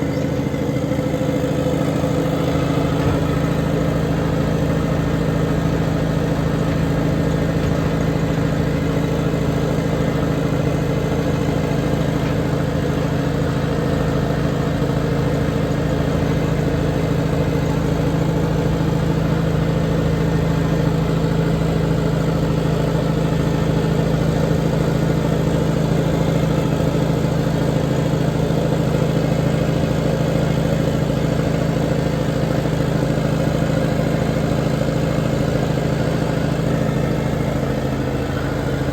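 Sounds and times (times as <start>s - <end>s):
work machine engine running: 0.0s - 38.9s.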